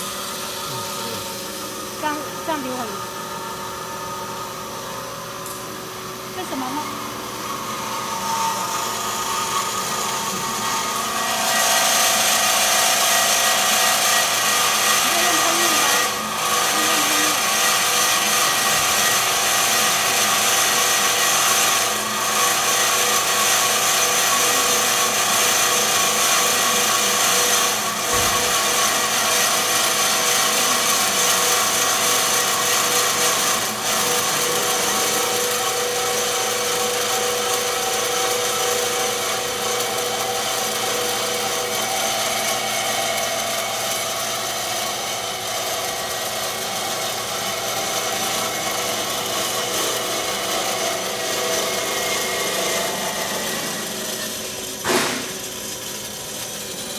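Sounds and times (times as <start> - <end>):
band saw cutting metal: 0.0 - 56.9.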